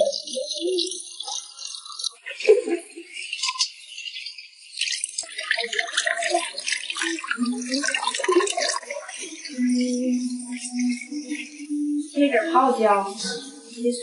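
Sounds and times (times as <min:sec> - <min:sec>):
hands rinsing under water: 0:00.0 - 0:12.2
tap water running into sink: 0:00.0 - 0:13.4.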